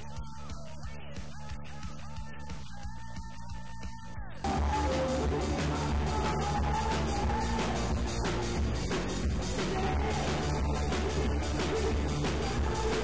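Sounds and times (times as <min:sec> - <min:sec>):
steady driving beat: 0:00.0 - 0:13.0.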